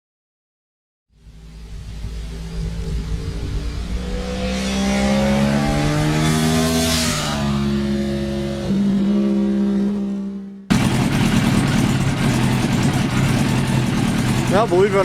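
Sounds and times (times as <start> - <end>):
engine revving: 1.8 - 15.0.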